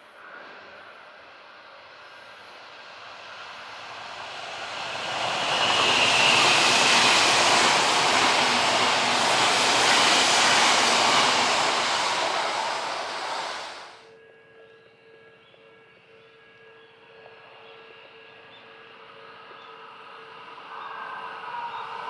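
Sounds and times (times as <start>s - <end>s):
train passing: 0.1s - 14.0s, 17.5s - 22.0s.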